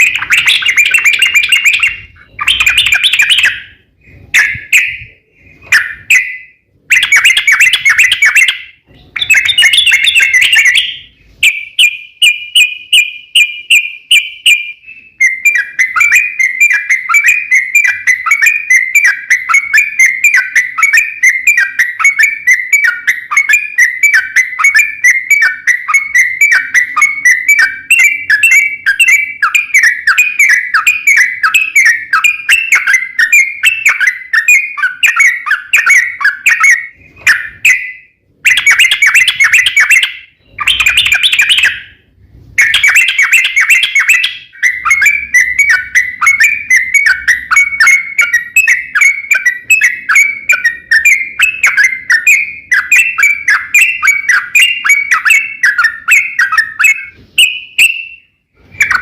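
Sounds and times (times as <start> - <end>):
bird chattering song: 0.0 - 42.0, 42.6 - 59.0
bird rapid trill: 0.0 - 42.0, 42.6 - 59.0.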